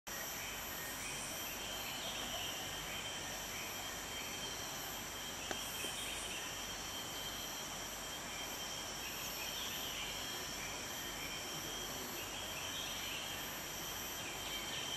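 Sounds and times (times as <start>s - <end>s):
insects calling: 0.1s - 14.9s.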